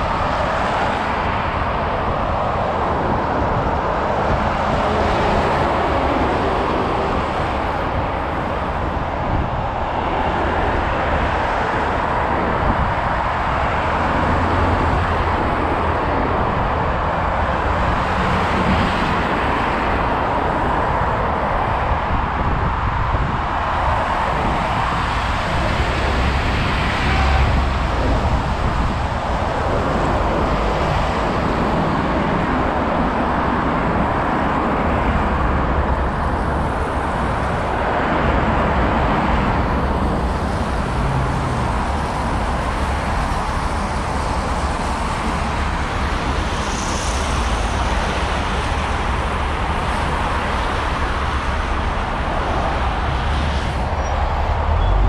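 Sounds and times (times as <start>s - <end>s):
car engines and tyres on road: 0.0s - 55.0s
deep traffic rumble: 0.0s - 55.0s
vehicles passing: 0.0s - 55.0s.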